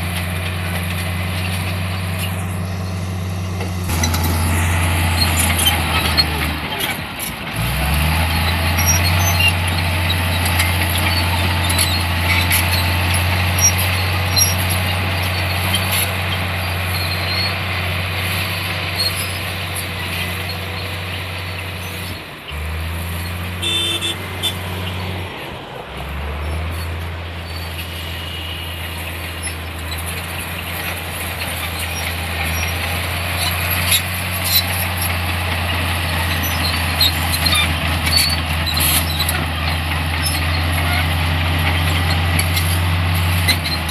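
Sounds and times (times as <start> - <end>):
heavy machine diesel engine: 0.0 - 43.9.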